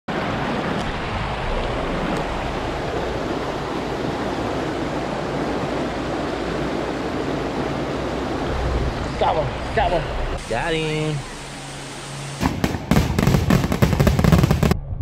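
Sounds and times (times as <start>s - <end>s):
river rushing over rocks: 0.1s - 12.4s.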